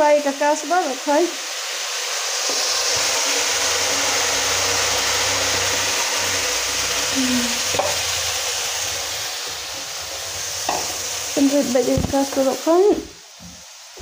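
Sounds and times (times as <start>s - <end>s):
oil sizzling in frying pan: 0.0s - 14.0s.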